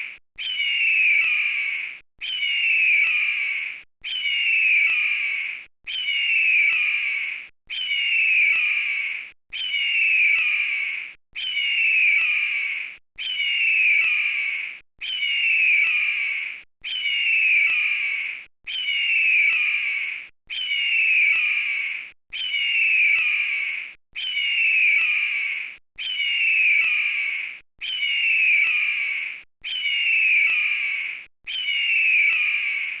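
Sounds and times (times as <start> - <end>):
eagle shrill cry: 0.0 - 33.0.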